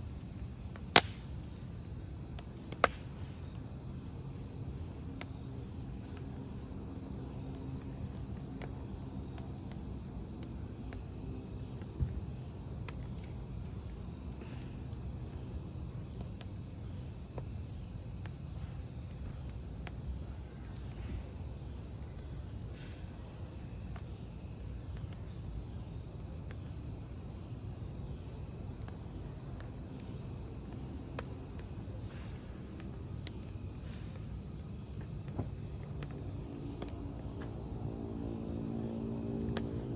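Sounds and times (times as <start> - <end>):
burning logs popping: 0.0 - 39.9
crickets chirping: 0.0 - 39.9
wood fire crackling: 0.0 - 39.9.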